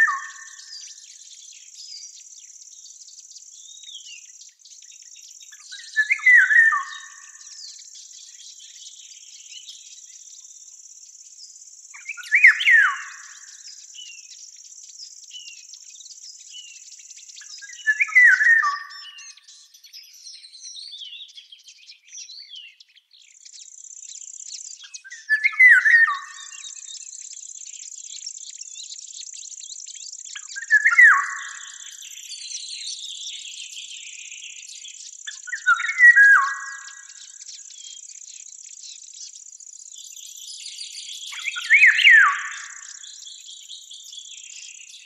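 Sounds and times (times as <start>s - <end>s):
high insect trill: 0.0s - 19.2s, 23.3s - 45.0s
faint bird chirps: 0.0s - 45.0s
songbird singing: 0.0s - 45.0s.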